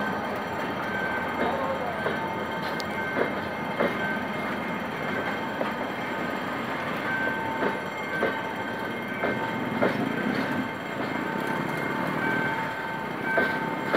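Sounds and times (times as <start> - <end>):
train wheels rumbling: 0.0 - 13.9.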